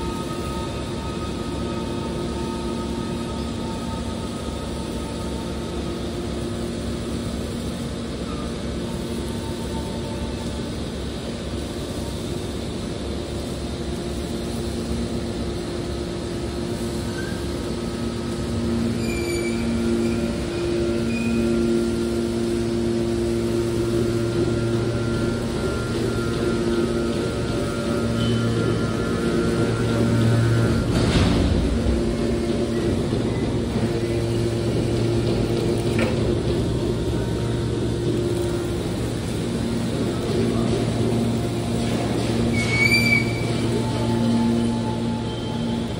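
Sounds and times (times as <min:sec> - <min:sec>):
hydraulic baler droning hum: 0:00.0 - 0:45.9.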